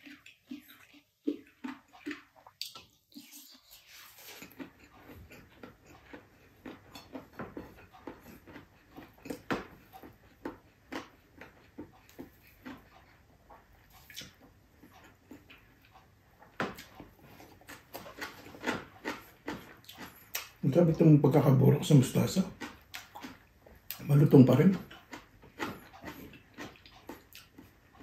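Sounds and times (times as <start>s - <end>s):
person chewing and smacking food: 0.0s - 28.0s.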